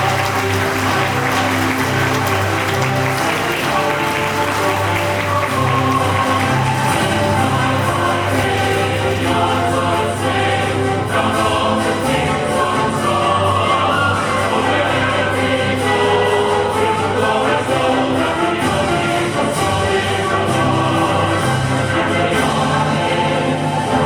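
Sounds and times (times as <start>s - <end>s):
choir singing: 0.0s - 24.0s
instrumental accompaniment: 0.0s - 24.0s.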